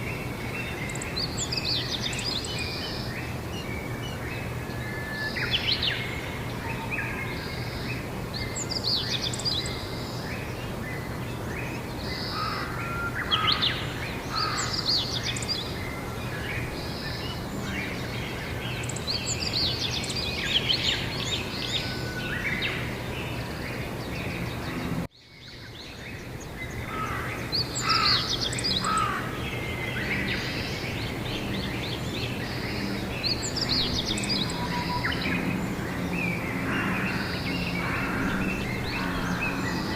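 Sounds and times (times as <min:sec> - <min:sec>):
birds singing and calling: 0:00.0 - 0:39.9
outdoor background noise: 0:00.0 - 0:39.9.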